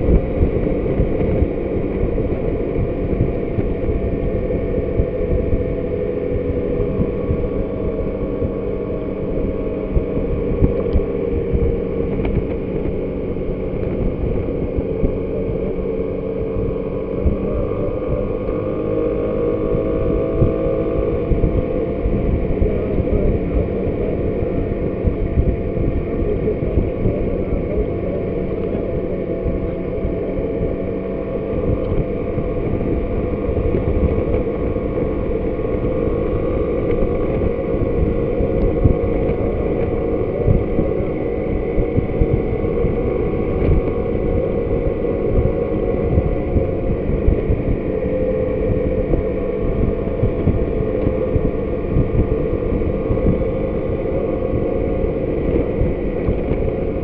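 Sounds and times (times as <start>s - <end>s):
scooter engine hum: 0.0s - 57.0s
wind on microphone: 0.0s - 57.0s.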